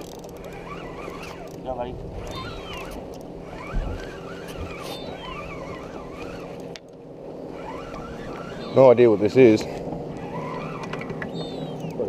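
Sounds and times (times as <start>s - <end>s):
fishing reel gears whining: 0.0s - 6.7s, 7.4s - 12.0s
boat motor hum: 0.0s - 12.0s.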